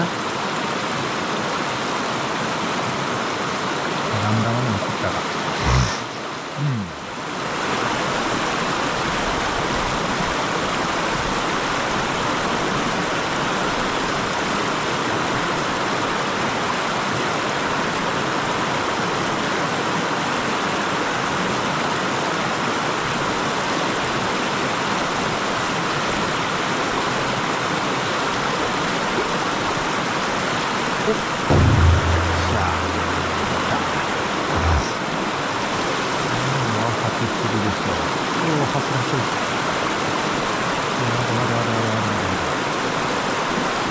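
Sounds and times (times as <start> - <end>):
stream water rushing over rocks: 0.0 - 31.3, 32.1 - 41.2.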